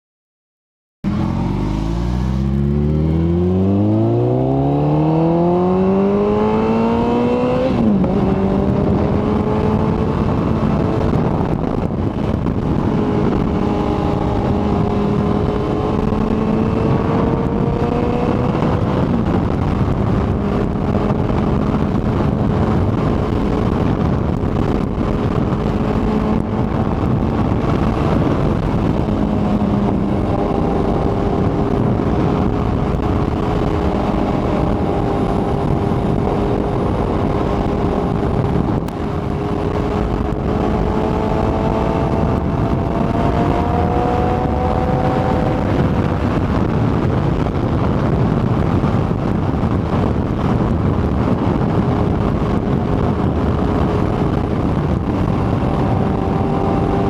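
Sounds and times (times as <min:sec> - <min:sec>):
motorcycle engine accelerating: 0:01.0 - 0:57.0
wind rushing past: 0:01.1 - 0:57.0.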